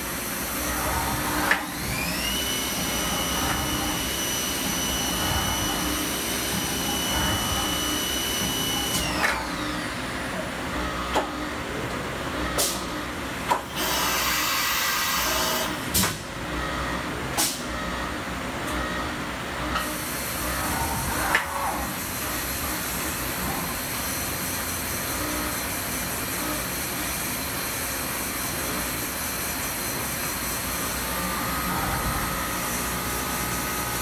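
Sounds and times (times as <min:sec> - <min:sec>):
mill spindle whine: 0:00.0 - 0:34.0.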